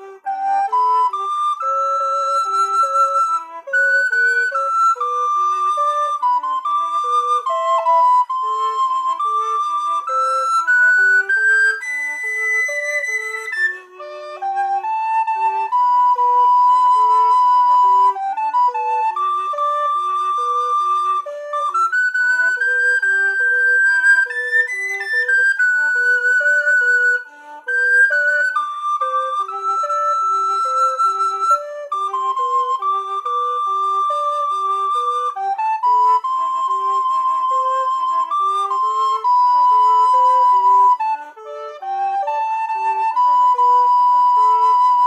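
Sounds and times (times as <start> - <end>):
high recorder melody: 0.0 - 45.0.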